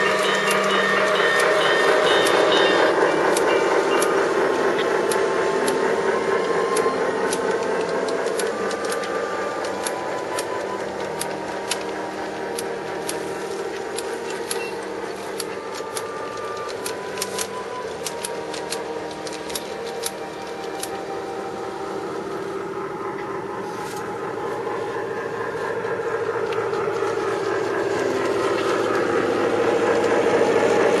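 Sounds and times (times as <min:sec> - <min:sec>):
model train wheels clicking: 0:00.0 - 0:31.0
steady hum: 0:00.0 - 0:31.0.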